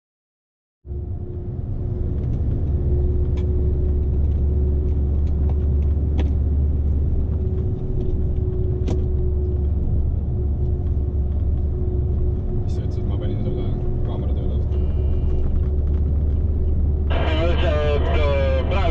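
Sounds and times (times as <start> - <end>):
diesel truck engine drone: 0.9 - 18.9.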